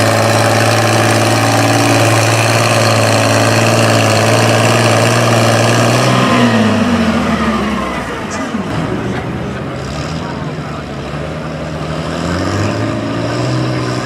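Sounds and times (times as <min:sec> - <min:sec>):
tractor engine revving: 0:00.0 - 0:14.0.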